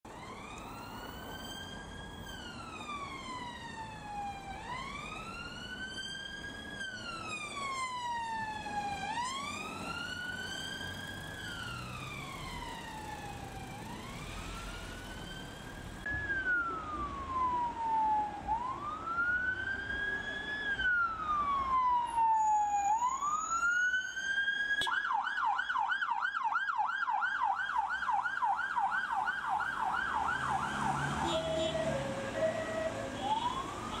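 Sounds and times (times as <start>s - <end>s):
police siren wailing: 0.1s - 34.0s
siren yelp: 0.1s - 34.0s.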